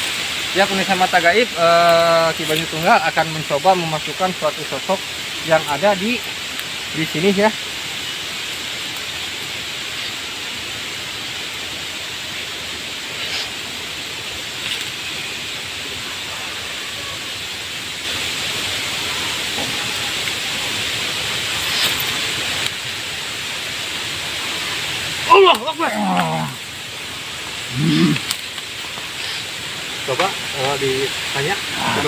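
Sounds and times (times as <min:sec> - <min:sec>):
steady background hiss: 0:00.0 - 0:32.0.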